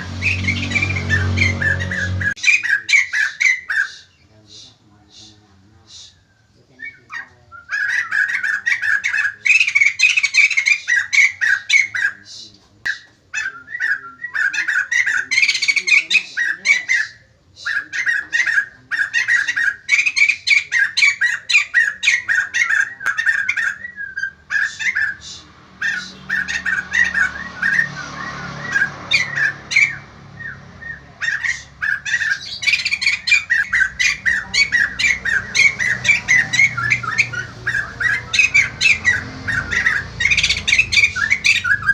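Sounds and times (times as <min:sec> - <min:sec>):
bird chattering song: 0:00.0 - 0:41.9.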